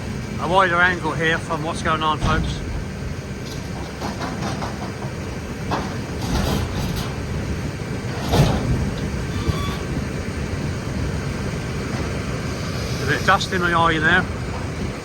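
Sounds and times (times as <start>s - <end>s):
wind buffeting microphone: 1.4s - 15.0s.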